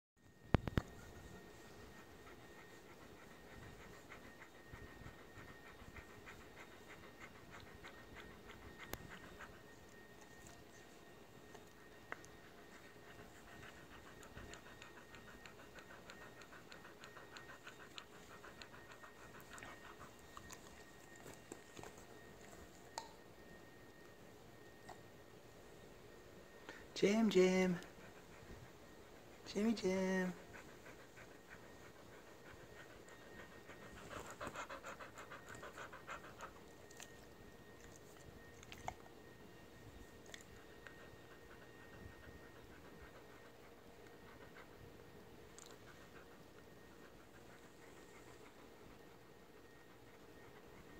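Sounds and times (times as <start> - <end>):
dog panting: 0.5 - 25.2, 25.8 - 50.9.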